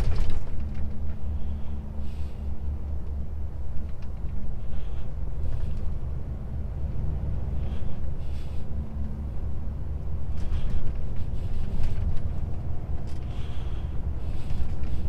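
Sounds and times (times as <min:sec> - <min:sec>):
diesel engine drone: 0:00.0 - 0:15.0
road noise: 0:00.0 - 0:15.0.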